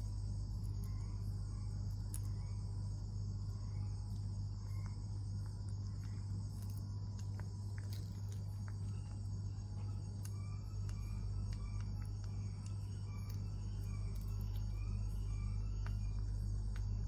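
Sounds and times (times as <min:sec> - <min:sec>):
night insects trilling: 0:00.0 - 0:17.0
steady low hum: 0:00.0 - 0:17.0.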